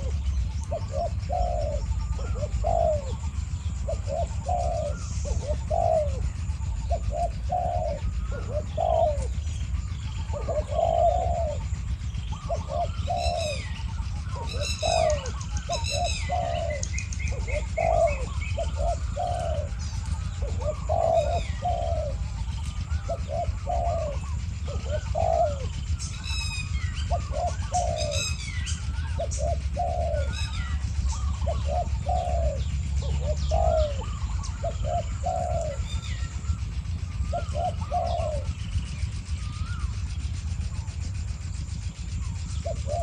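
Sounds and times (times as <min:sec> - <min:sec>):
bird falling call series: 0:00.0 - 0:41.1
doves cooing: 0:00.0 - 0:43.0.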